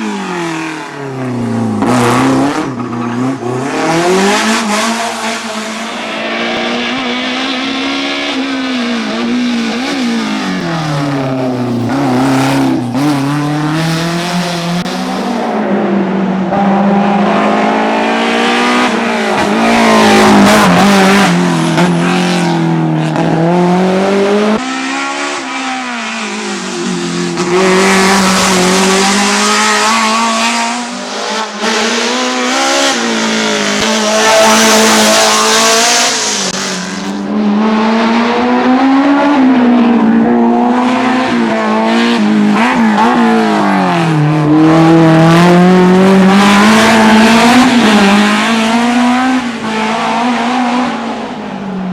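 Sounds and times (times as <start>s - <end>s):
race car engine revving: 0.0s - 51.9s.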